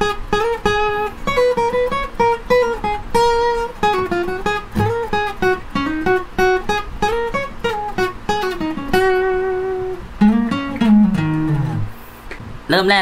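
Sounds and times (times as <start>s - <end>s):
acoustic guitar lead solo: 0.0s - 13.0s.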